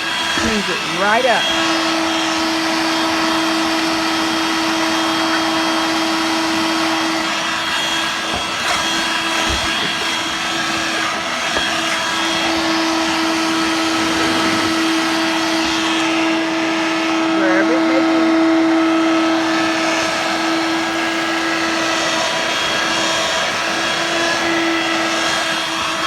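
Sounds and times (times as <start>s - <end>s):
handheld vacuum motor hum: 0.0s - 26.0s.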